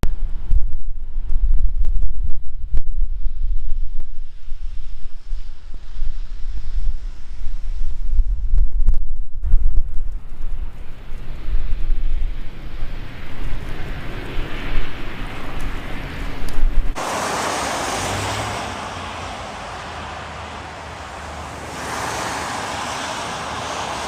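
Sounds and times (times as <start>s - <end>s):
wind buffeting microphone: 0.0s - 24.0s
steady rushing noise: 0.1s - 24.0s.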